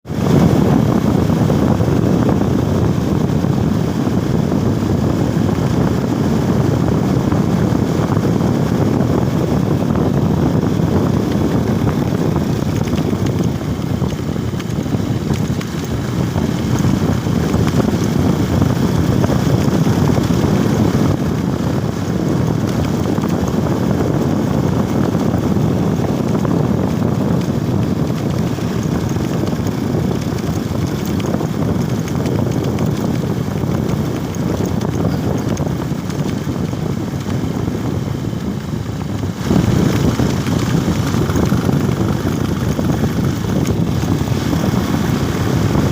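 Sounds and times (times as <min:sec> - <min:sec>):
motorcycle engine: 0:00.0 - 0:45.9
road noise: 0:00.0 - 0:45.9
wind rumble on microphone: 0:00.0 - 0:45.9.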